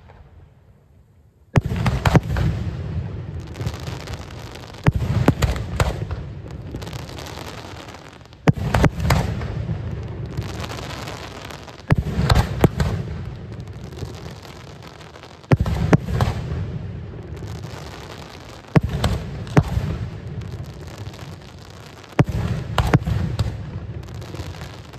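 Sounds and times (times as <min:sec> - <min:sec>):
fireworks bangs: 0:01.6 - 0:24.9.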